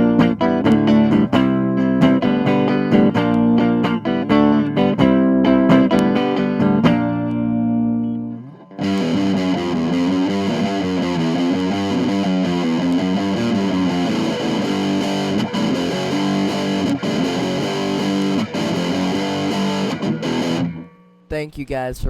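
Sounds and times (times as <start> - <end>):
distorted electric guitar: 0.0 - 21.2.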